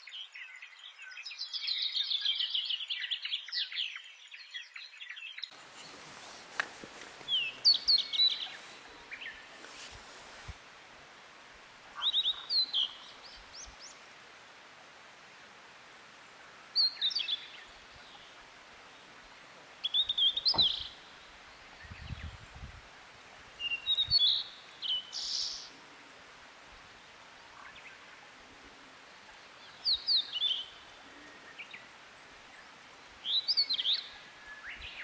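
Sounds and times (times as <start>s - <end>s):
faint steady hiss: 0.0s - 35.0s
songbird chirping: 0.0s - 35.0s.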